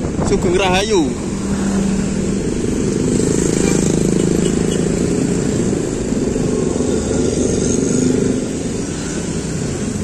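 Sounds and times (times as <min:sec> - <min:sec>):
scooters and cars passing: 0:00.0 - 0:10.0.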